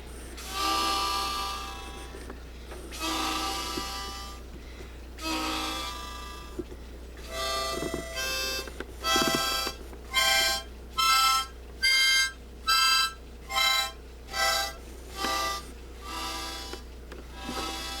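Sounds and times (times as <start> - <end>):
harmonica playing a tune: 0.0 - 4.5, 5.2 - 6.6, 7.2 - 18.0.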